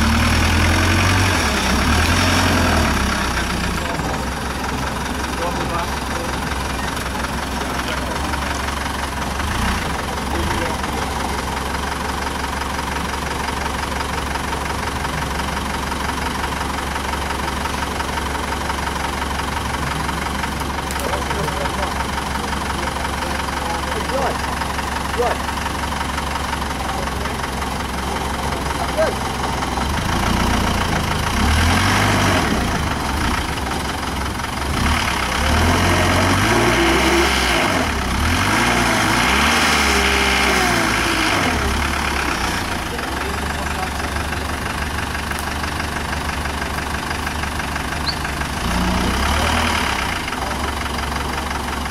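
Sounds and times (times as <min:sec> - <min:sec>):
truck engine idling: 0:00.0 - 0:51.9.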